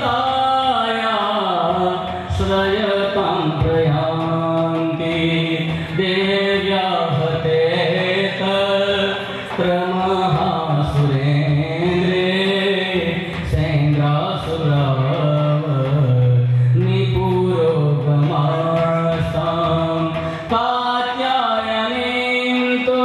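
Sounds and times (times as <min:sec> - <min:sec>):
person singing folk song: 0:00.0 - 0:23.0.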